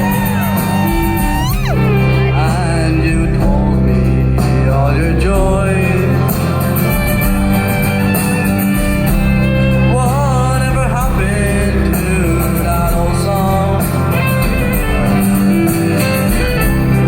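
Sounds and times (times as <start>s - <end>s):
live band playing a ballad: 0.0s - 17.0s.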